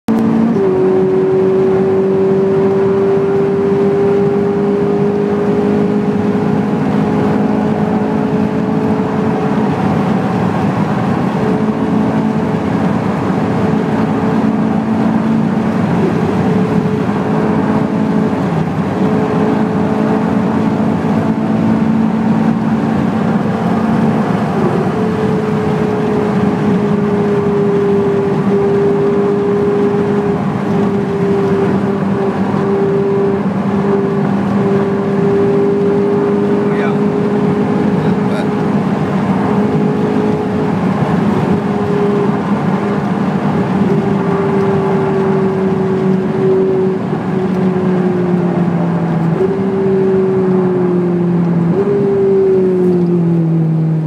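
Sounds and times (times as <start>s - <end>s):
car engine cruising: 0.0s - 54.0s
tyre and road noise: 0.1s - 54.0s.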